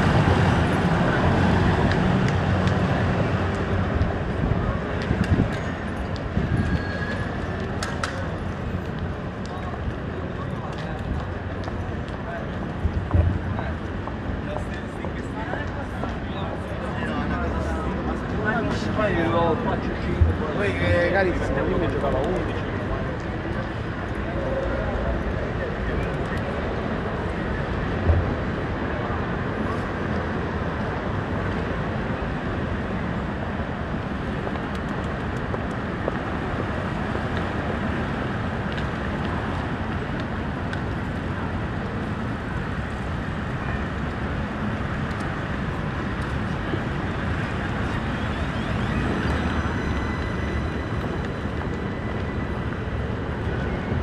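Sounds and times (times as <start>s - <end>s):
city traffic passing: 0.0s - 54.0s.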